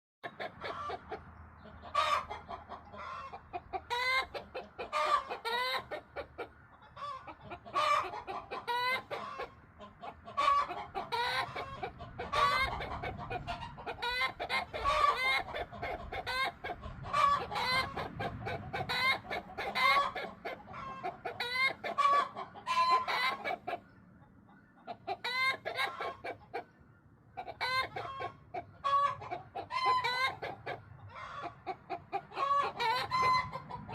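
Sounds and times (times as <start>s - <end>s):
hens clucking and cackling: 0.2s - 33.9s.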